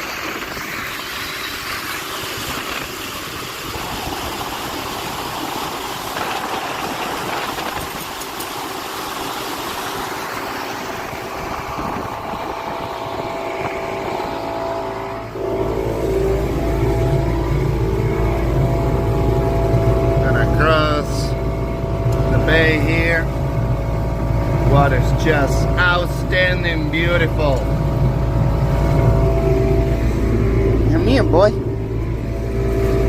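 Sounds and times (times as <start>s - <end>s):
motorboat engine: 0.0s - 33.0s
wind and water rushing: 0.0s - 33.0s.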